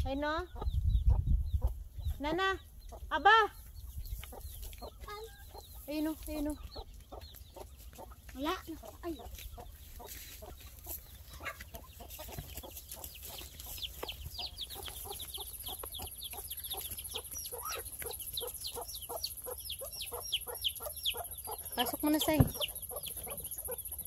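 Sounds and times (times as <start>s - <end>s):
chicks peeping: 0.0s - 24.0s
hen clucking: 0.1s - 24.0s.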